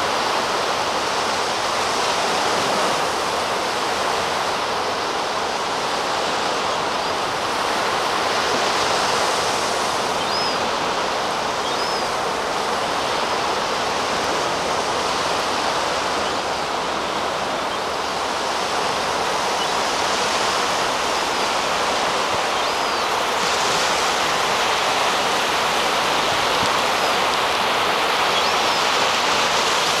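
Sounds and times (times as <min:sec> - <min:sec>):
surf on sandy beach: 0:00.0 - 0:30.0.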